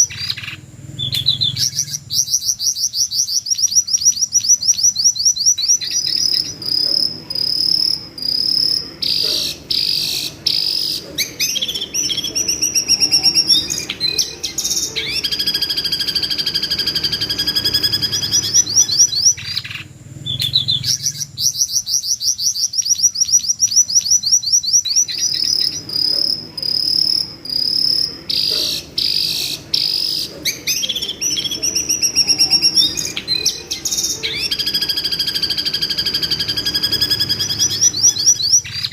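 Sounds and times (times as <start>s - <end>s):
bird screeching trills: 0.0s - 38.9s.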